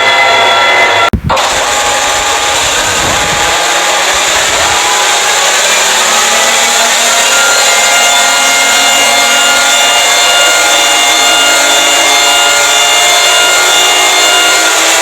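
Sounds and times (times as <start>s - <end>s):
distorted electronic alarm tones: 1.2s - 15.0s.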